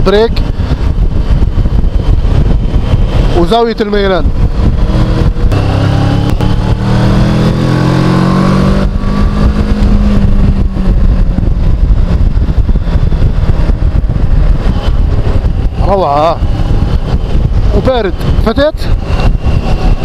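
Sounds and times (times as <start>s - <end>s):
motorcycle engine: 0.0s - 20.0s
wind rushing over microphone: 0.0s - 20.0s.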